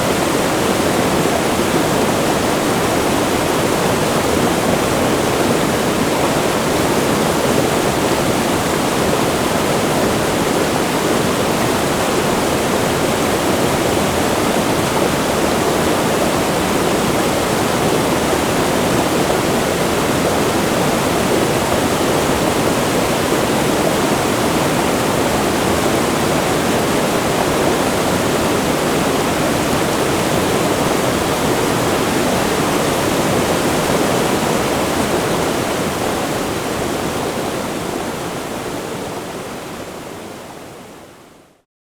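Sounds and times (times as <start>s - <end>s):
river rushing: 0.0s - 41.3s.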